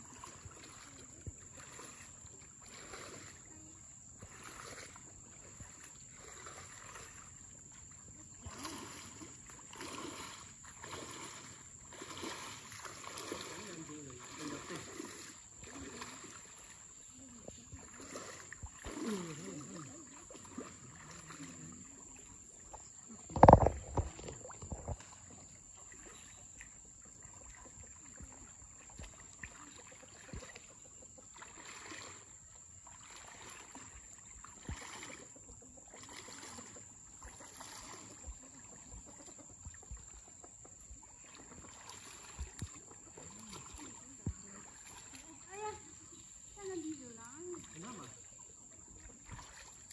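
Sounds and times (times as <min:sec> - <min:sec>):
water sloshing: 0:00.0 - 0:49.9.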